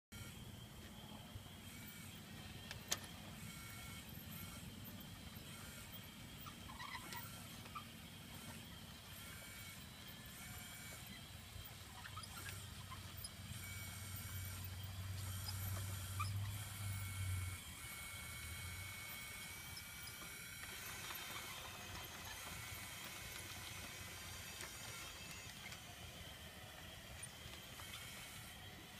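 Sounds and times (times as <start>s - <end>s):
model bulldozer drive hum: 0.1s - 28.9s
faint high whines: 0.2s - 28.9s.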